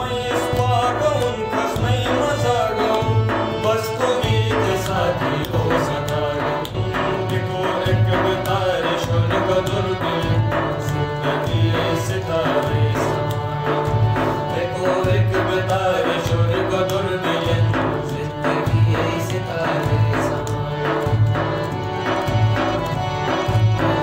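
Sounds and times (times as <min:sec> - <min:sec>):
man singing: 0:00.0 - 0:21.6
hand drumming on hard case: 0:00.0 - 0:24.0
harmonium chords: 0:00.0 - 0:24.0.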